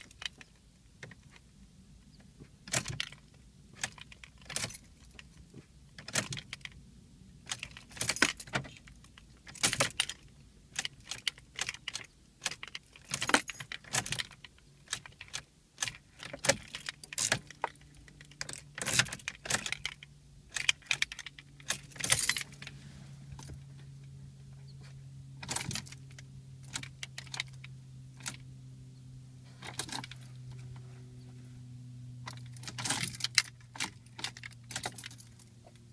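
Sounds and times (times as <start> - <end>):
steady low hum: 0.0 - 35.9
car keys jangling in ignition: 2.6 - 6.8, 7.4 - 24.2, 25.4 - 28.5, 29.4 - 30.9, 32.2 - 35.9.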